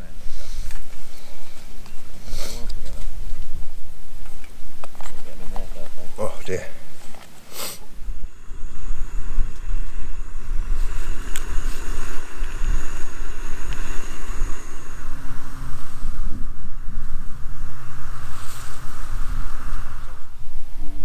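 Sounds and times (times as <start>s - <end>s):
faint low steady hum: 0.0s - 21.0s
wind buffeting microphone: 0.0s - 21.0s.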